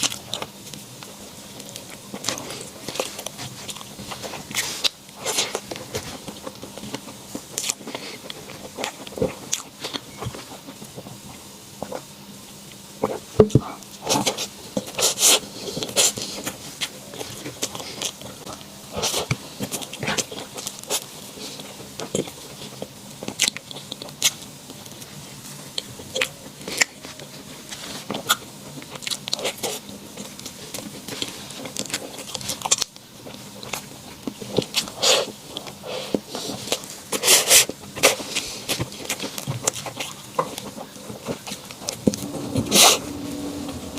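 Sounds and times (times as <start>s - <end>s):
person chewing crunchy dessert: 0.0s - 12.1s, 13.8s - 43.9s.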